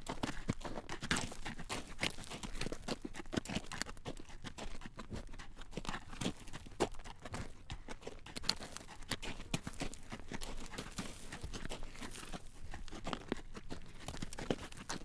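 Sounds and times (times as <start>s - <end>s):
horse hooves clip-clopping on road: 0.0s - 15.0s.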